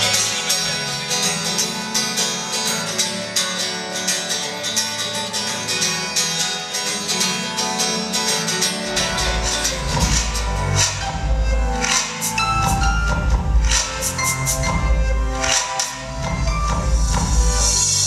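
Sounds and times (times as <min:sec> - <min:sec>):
acoustic guitars strumming: 0:00.0 - 0:18.0.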